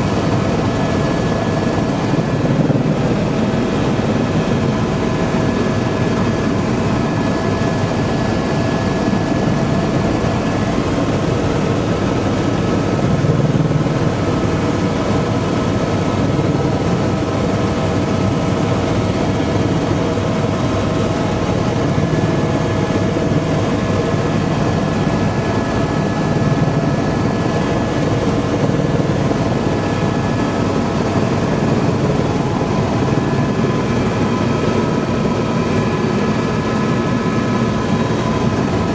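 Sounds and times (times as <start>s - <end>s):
helicopter rotor and engine rumble: 0.0s - 38.9s.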